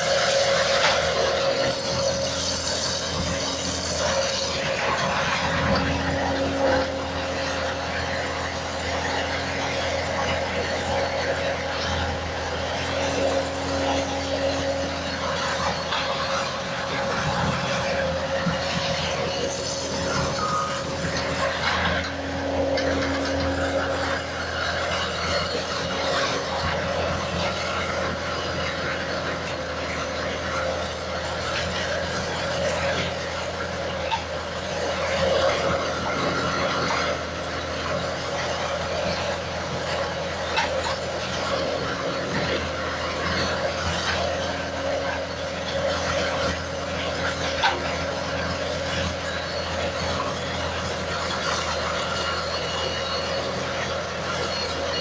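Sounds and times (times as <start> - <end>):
skid steer engine running: 0.0 - 55.0.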